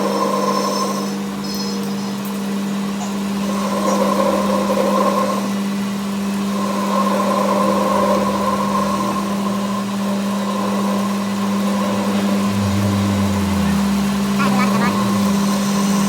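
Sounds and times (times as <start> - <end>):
high whirring: 0.0 - 16.0
machine humming: 0.0 - 16.0.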